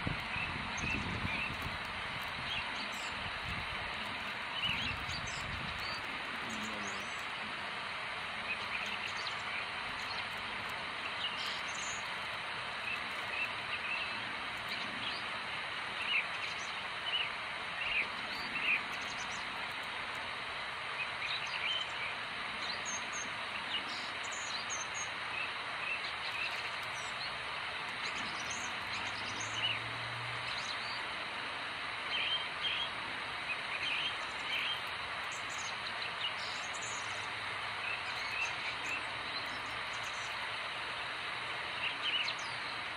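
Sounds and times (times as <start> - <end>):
outdoor background hiss: 0.0 - 42.9
small birds chirping: 0.0 - 42.9.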